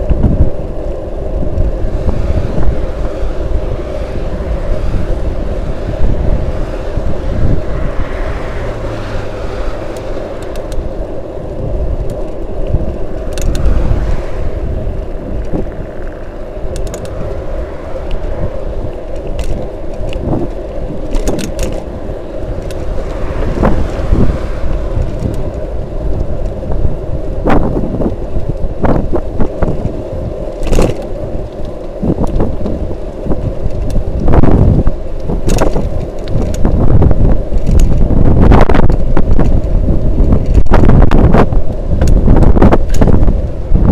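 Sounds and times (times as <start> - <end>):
bike and mount rattling clicks: 0.0 - 43.9
tyre and road rumble: 0.0 - 43.9
wind rushing over microphone: 0.0 - 43.9.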